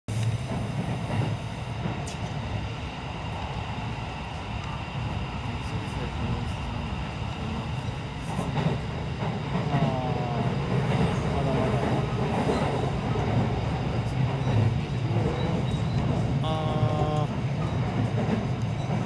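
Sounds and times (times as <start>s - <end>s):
train wheels rumbling on track: 0.1s - 19.0s.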